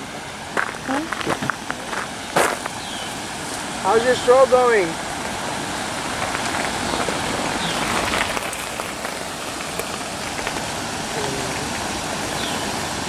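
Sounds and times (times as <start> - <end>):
water splashing over stone cascade: 0.0 - 13.0.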